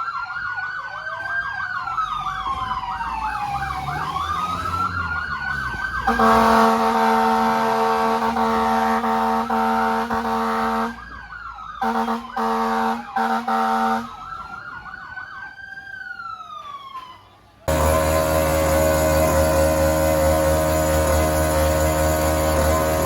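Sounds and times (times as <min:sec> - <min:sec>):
emergency vehicle siren: 0:00.0 - 0:23.0.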